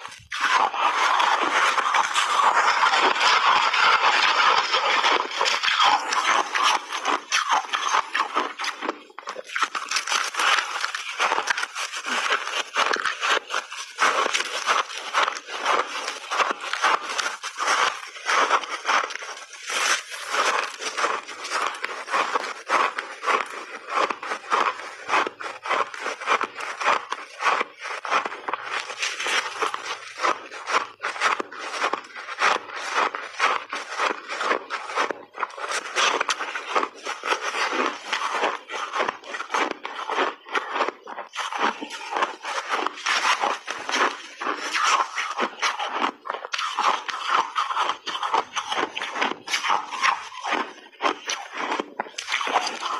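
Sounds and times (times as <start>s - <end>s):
chewing crunchy ice: 0.0s - 52.9s.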